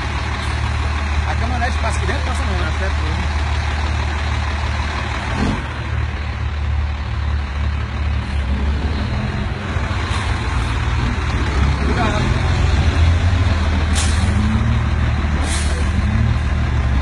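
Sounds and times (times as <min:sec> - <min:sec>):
truck diesel engine humming: 0:00.0 - 0:17.0.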